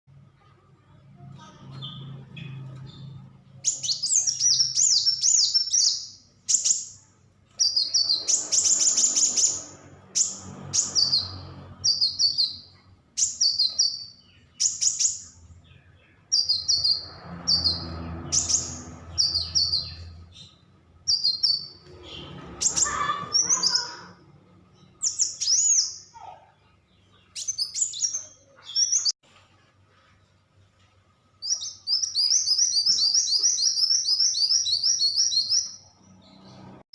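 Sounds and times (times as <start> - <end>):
songbird chirping and trilling: 0.2 - 29.2, 31.4 - 36.8.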